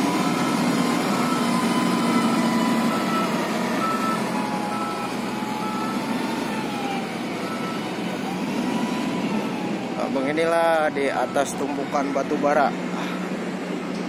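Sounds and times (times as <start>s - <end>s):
reversing alarm beeps: 0.0s - 13.4s
diesel engine running: 0.0s - 14.0s.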